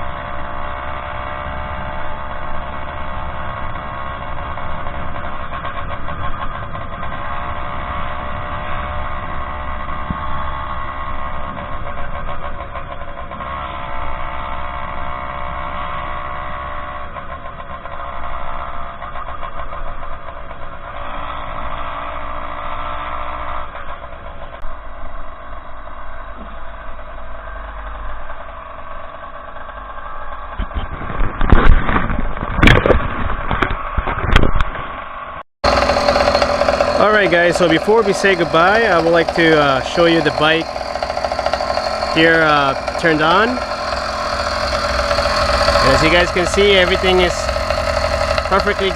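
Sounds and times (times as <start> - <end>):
two-stroke engine running: 0.0 - 48.9.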